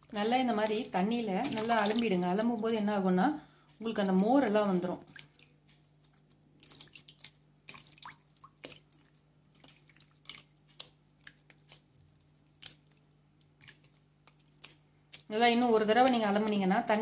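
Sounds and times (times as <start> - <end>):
butter squelching in water: 0.0 - 17.0.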